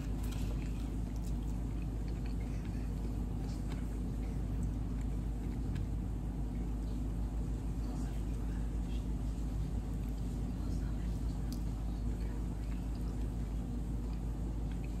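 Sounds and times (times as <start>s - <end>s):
faint chewing clicks: 0.0s - 15.0s
low rumbling hum: 0.0s - 15.0s.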